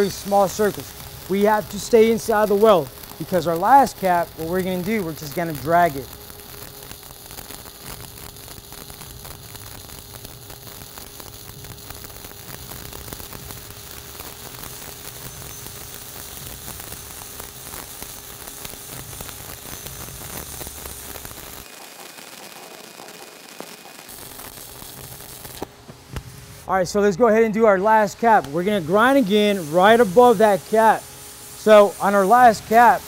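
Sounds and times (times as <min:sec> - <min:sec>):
welding arc crackling: 0:00.0 - 0:33.0.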